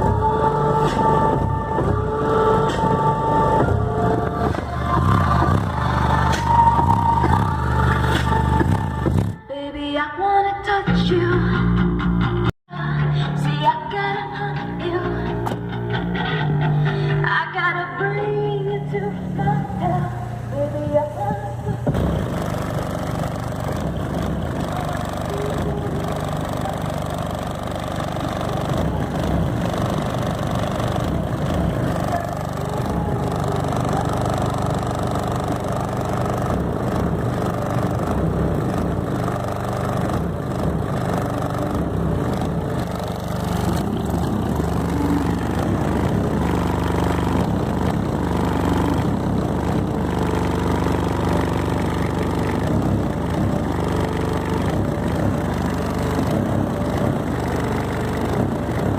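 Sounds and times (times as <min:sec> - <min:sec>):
subwoofers playing heavy bass: 0:00.0 - 0:09.6, 0:10.8 - 0:58.9.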